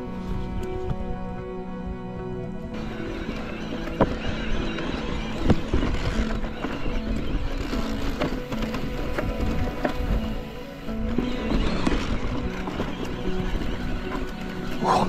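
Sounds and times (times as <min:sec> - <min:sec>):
background music: 0:00.0 - 0:15.0
bike tyres rumbling on rough track: 0:02.7 - 0:15.0.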